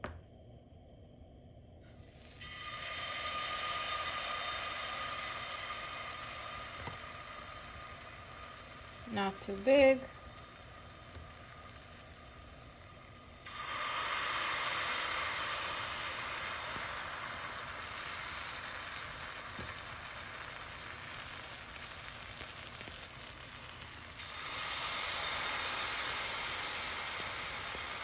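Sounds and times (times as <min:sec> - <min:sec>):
pancake batter sizzling: 0:01.8 - 0:28.0.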